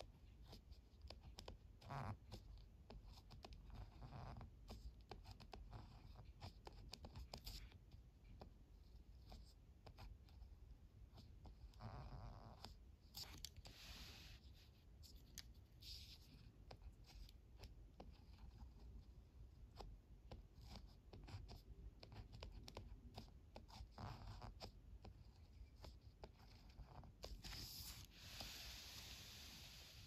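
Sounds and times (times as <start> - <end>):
pen scratching on paper: 0.0 - 30.0.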